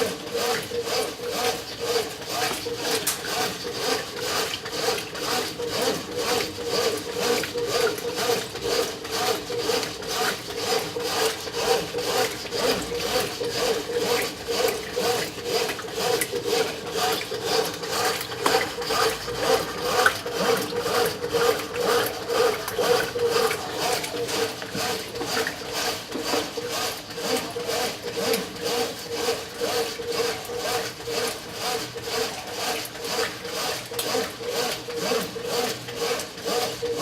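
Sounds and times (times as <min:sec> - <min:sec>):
washing machine agitating in water: 0:00.0 - 0:37.0.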